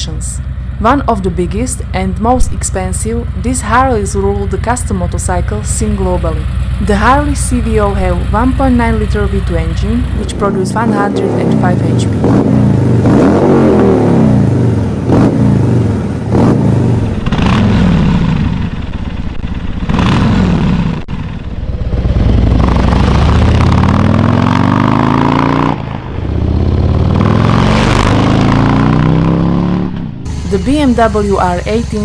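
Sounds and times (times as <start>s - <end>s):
motorcycle engine revving: 0.0s - 32.0s
motorcycle pulling away: 2.8s - 32.0s.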